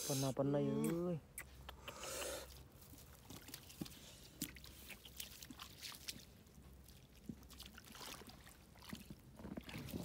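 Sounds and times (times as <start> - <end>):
bare feet squelching in mud: 0.7 - 10.0.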